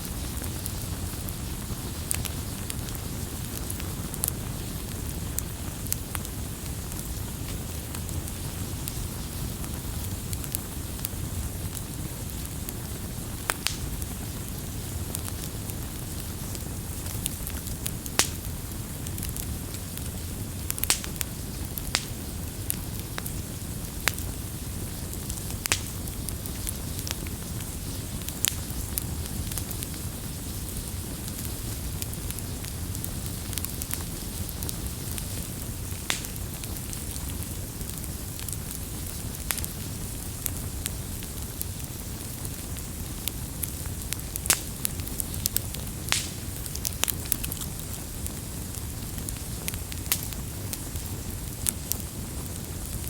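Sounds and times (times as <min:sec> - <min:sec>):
burning wood crackling and popping: 0:00.0 - 0:53.0
campfire low rush: 0:00.0 - 0:53.0.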